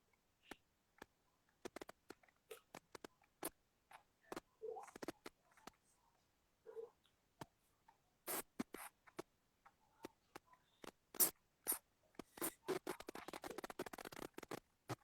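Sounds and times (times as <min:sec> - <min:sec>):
scratching and tapping on microphone: 0:00.5 - 0:05.8, 0:07.4 - 0:15.0.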